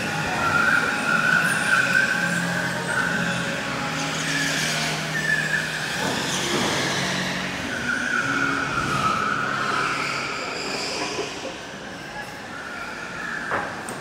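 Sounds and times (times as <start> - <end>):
tyres squealing: 0.0 - 11.6
go-kart engines humming: 0.0 - 14.0.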